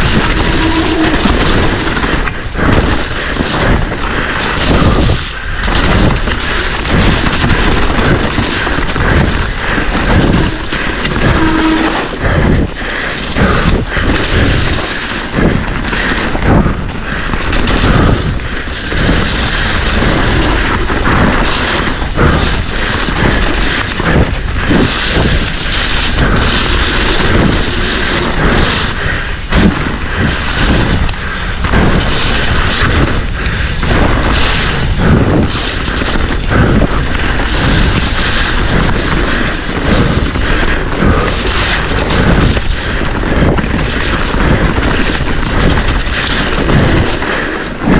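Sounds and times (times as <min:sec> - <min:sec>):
bike knocks and clatter: 0:00.0 - 0:12.6, 0:13.3 - 0:47.9
wind buffeting microphone: 0:00.0 - 0:47.9.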